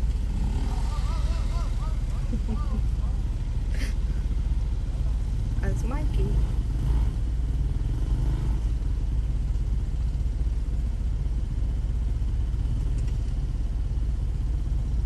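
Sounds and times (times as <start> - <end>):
vehicle engine running low: 0.0 - 15.0.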